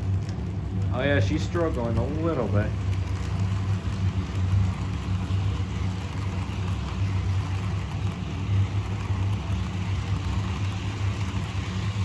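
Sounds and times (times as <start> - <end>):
model train wheels rumbling: 0.0 - 12.0.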